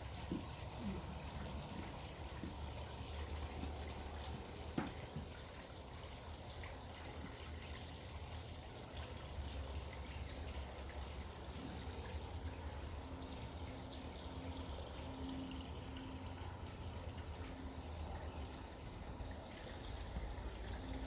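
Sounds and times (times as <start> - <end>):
low steady hum: 0.0 - 21.0
water dripping into pool: 0.0 - 21.0.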